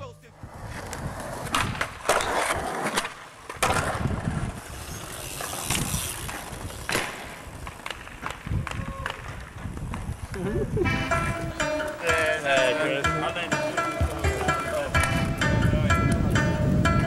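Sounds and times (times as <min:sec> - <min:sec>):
wheels rolling on concrete: 0:00.3 - 0:17.0.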